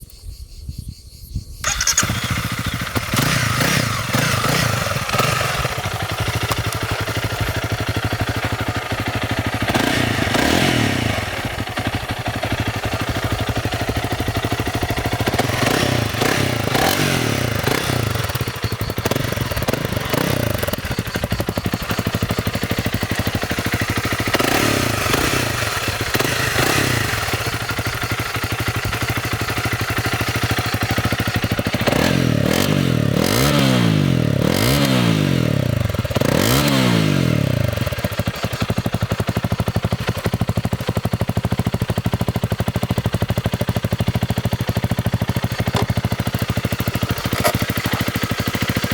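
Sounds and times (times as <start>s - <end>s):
motorcycle engine idling and revving: 1.5s - 48.9s.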